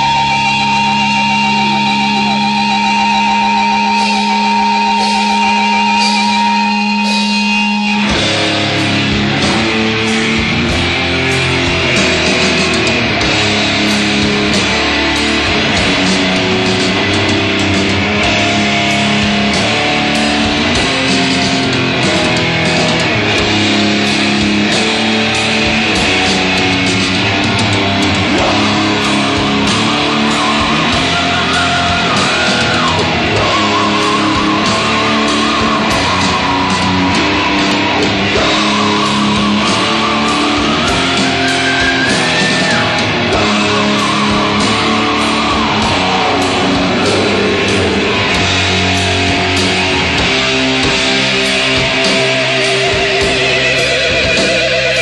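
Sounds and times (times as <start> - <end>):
bass guitar: 0.0 - 55.0
distorted guitar ringing: 0.0 - 55.0
drums: 0.0 - 55.0
fast electric guitar riffing: 0.0 - 55.0
guitar note bend: 0.0 - 55.0.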